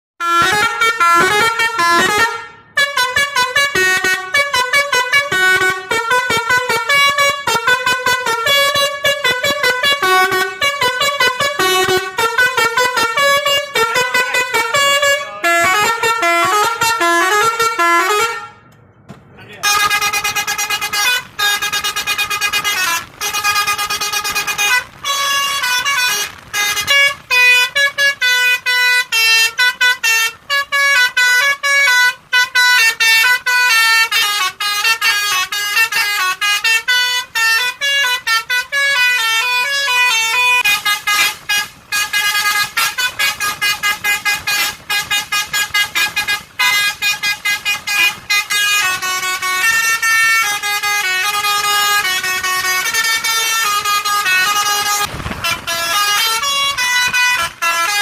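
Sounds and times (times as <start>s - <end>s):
musical vehicle horn playing a tune: 0.2s - 18.7s, 19.6s - 58.0s.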